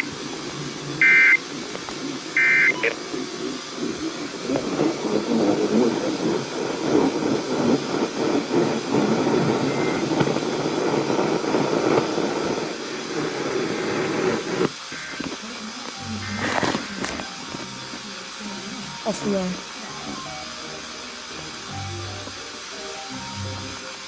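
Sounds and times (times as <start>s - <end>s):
radio static crackling: 0.0s - 24.0s.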